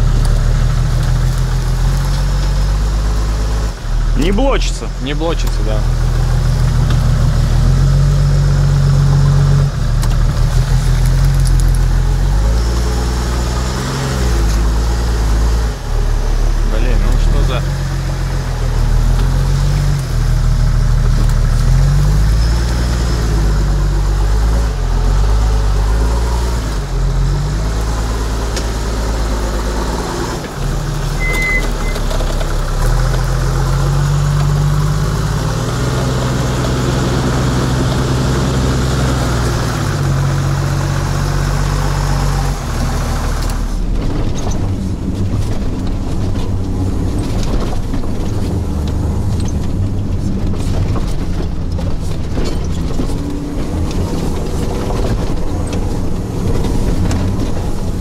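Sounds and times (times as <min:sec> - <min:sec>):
engine and road rumble: 0:00.0 - 0:58.0
truck engine revving under load: 0:00.0 - 0:58.0.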